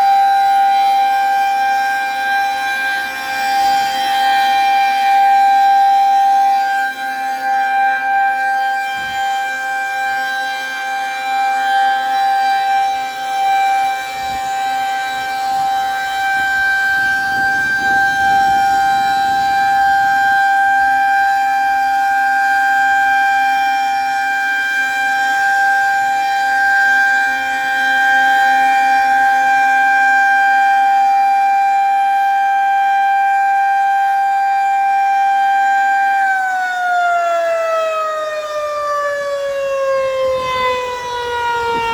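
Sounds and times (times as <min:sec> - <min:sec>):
rotating warning siren: 0:00.0 - 0:41.9.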